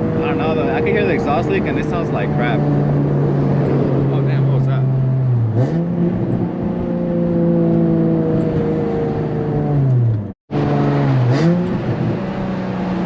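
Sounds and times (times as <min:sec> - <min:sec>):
car engine heard from cabin: 0:00.0 - 0:13.0.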